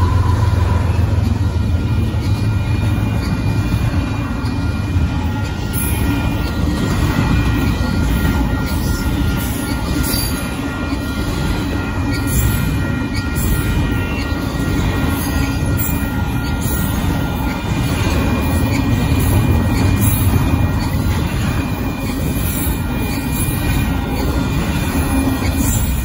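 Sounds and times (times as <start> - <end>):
high wheel squeal: 0.0 - 26.0
train wheels rumbling and clattering: 0.0 - 26.0.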